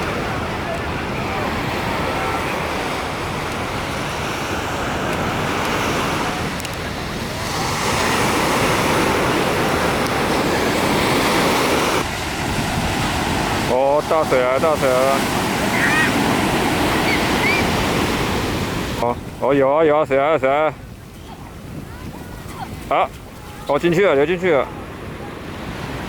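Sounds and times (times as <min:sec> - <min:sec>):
sea waves washing onto beach: 0:00.0 - 0:26.0.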